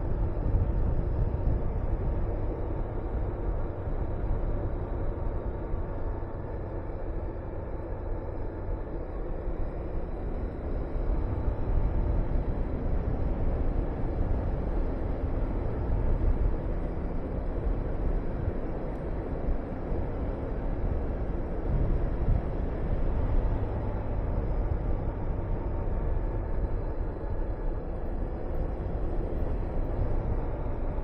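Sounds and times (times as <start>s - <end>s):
wind buffeting microphone: 0.0s - 5.2s, 10.5s - 31.0s.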